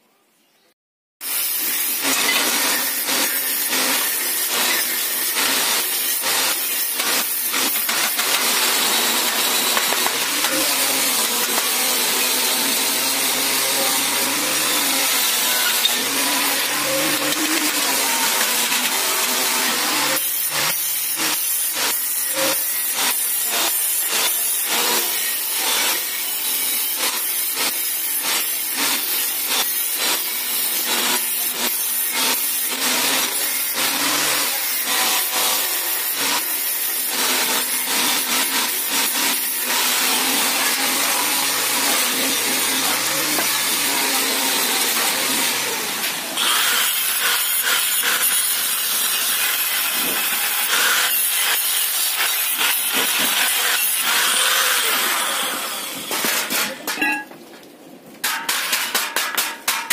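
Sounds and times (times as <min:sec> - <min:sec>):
arc welding crackling and hissing: 0:01.2 - 0:59.9.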